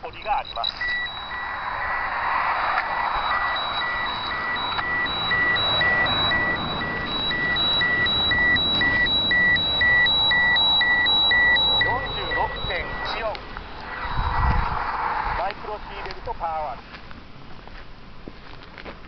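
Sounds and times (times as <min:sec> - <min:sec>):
high-pitched electronic beeping: 0:00.0 - 0:16.4
background noise rush: 0:00.0 - 0:19.0.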